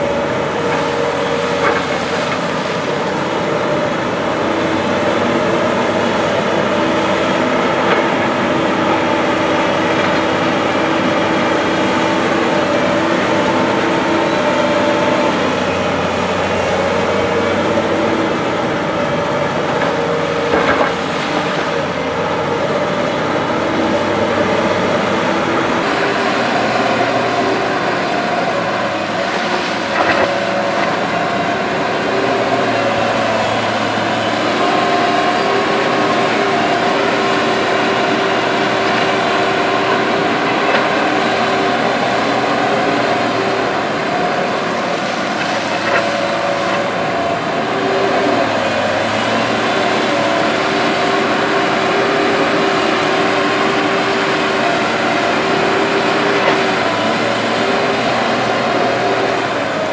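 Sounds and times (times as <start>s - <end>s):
excavator diesel engine: 0.0s - 59.9s
hydraulic whine: 0.0s - 59.9s.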